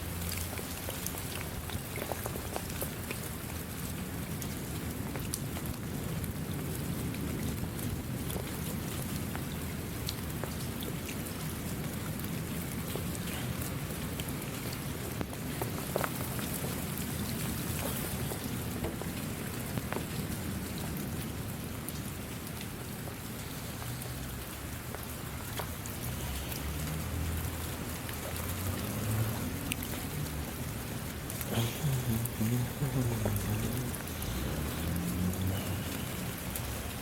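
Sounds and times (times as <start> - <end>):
raindrops striking close by: 0.0 - 37.0
steady rain hiss: 0.0 - 37.0.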